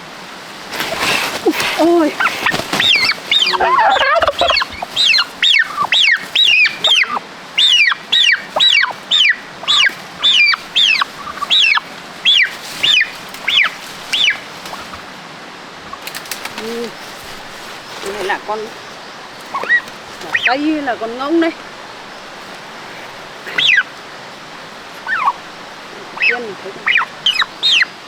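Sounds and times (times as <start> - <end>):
poultry bird calling: 0.7 - 15.2, 15.8 - 28.0
low warbling bird calls: 1.0 - 28.0.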